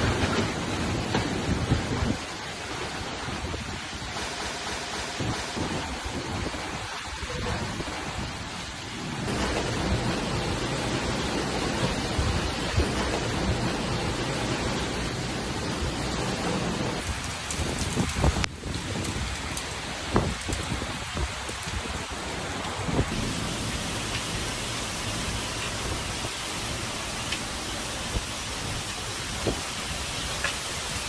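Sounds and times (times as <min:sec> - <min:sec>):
heavy rain: 0:00.0 - 0:31.0
wind: 0:00.0 - 0:31.0.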